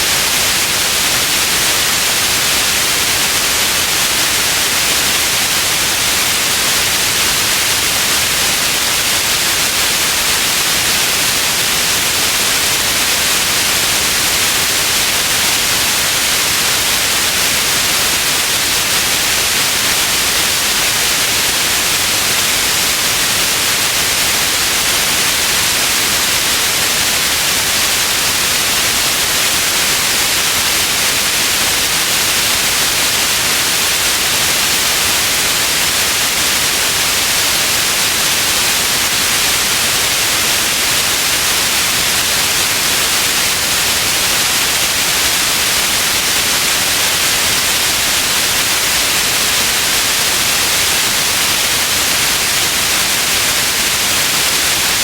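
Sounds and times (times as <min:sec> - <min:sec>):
electronic white noise hiss: 0:00.0 - 0:55.0.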